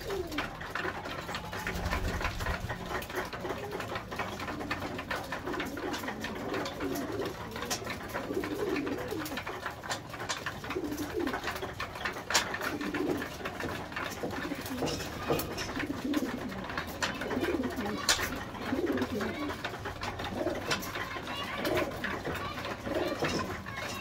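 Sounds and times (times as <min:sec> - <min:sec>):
beaks pecking on metal trough: 0:00.0 - 0:24.0
pigeons cooing: 0:00.0 - 0:24.0.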